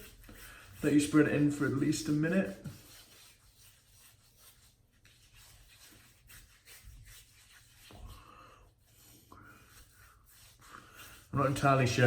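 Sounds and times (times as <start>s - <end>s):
hands rubbing face: 0.0s - 12.0s.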